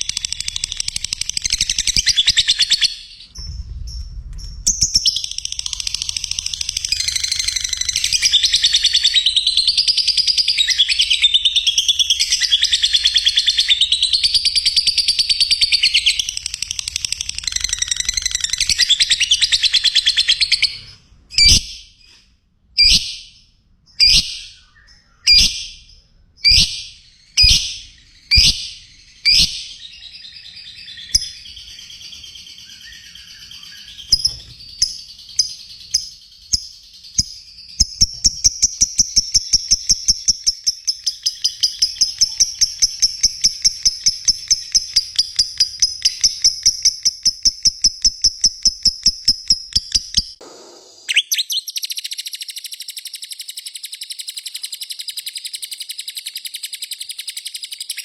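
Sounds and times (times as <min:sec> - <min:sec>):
lovebird chirping and chattering: 0:00.0 - 0:22.1, 0:22.8 - 0:50.4, 0:51.1 - 0:58.0.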